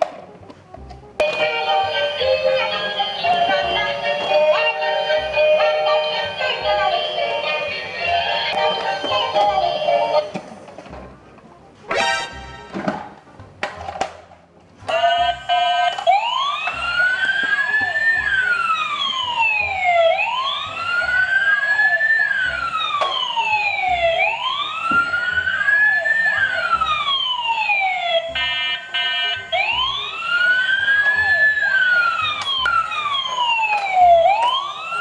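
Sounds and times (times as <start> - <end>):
electronic siren wailing: 1.2 - 10.3, 16.0 - 35.0.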